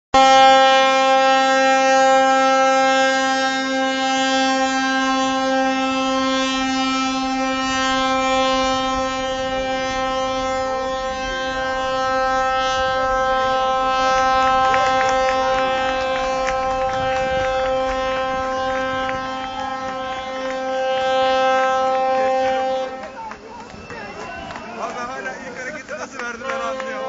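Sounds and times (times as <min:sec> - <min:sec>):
ship's horn blast: 0:00.2 - 0:27.0.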